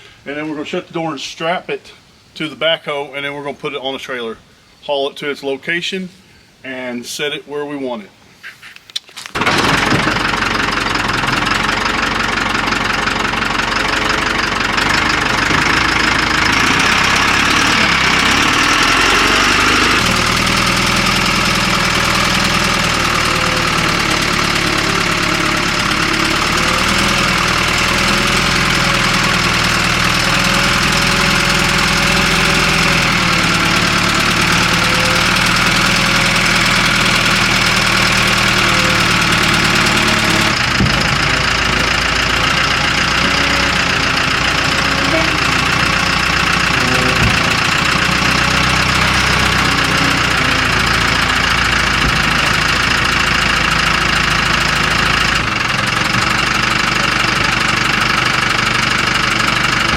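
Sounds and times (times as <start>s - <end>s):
backhoe diesel engine running: 9.4s - 59.9s.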